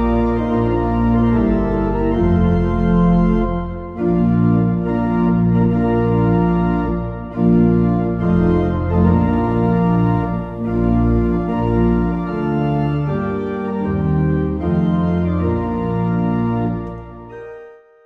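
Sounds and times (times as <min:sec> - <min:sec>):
organ playing sustained chords: 0:00.0 - 0:17.8.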